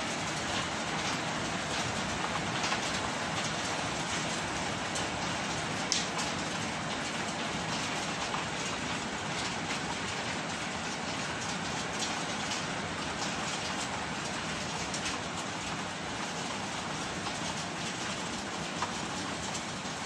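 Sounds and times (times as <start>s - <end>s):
hail and rain on paving: 0.0s - 20.0s.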